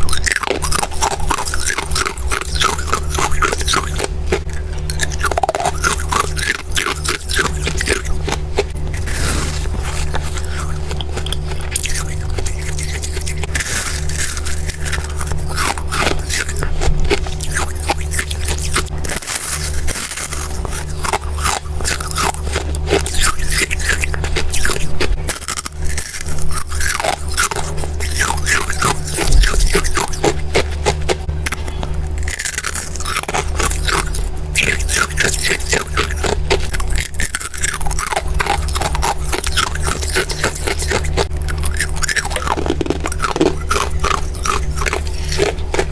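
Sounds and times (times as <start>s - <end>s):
chewing crunchy frost: 0.0s - 45.9s
low steady hum: 0.0s - 45.9s.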